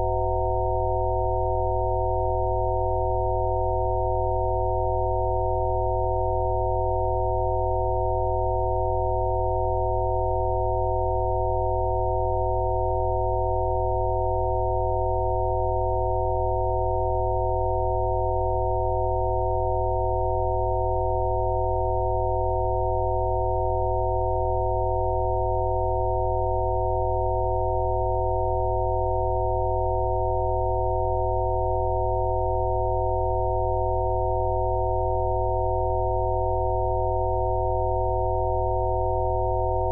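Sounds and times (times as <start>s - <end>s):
electronic sine-wave chord: 0.0s - 39.9s.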